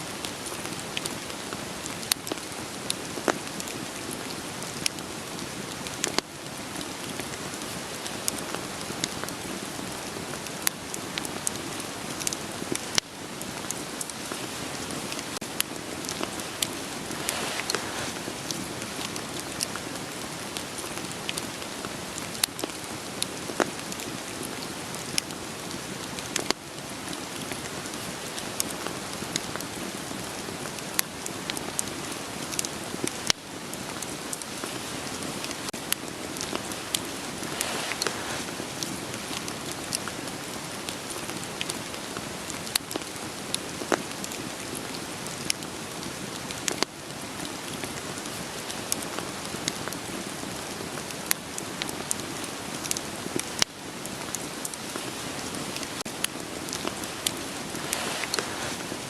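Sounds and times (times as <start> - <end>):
steady rain hiss: 0.0 - 59.0
campfire crackling and popping: 0.1 - 59.0.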